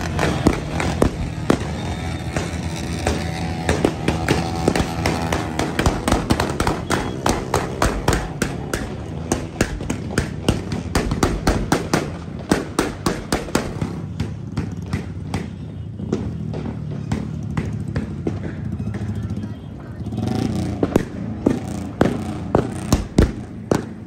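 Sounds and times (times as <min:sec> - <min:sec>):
sharp cracks: 0:00.0 - 0:19.2, 0:20.4 - 0:24.0.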